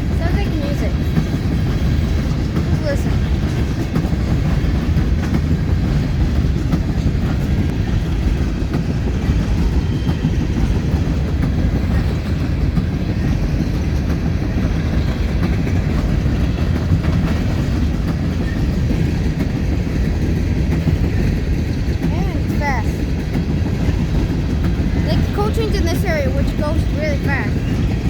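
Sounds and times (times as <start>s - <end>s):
freight train passing: 0.0s - 28.0s
wheels clicking over rail joints: 0.0s - 28.0s.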